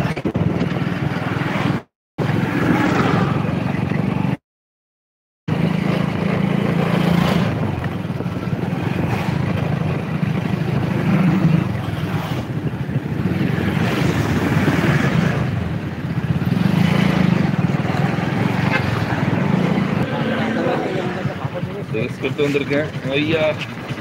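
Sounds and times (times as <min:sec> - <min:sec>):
motorcycle engine: 0:00.0 - 0:04.4, 0:05.5 - 0:24.0
road noise: 0:00.0 - 0:04.4, 0:05.5 - 0:24.0
wind rushing over microphone: 0:00.0 - 0:04.4, 0:05.5 - 0:24.0.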